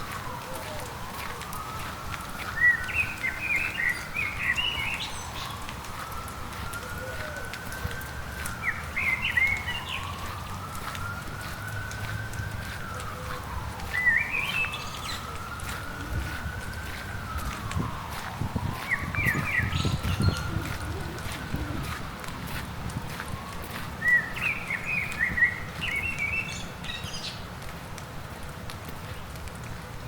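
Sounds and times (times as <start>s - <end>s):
songbirds chirping: 0.0s - 27.8s
distant siren wailing: 0.0s - 30.0s
steady rain: 0.0s - 30.0s.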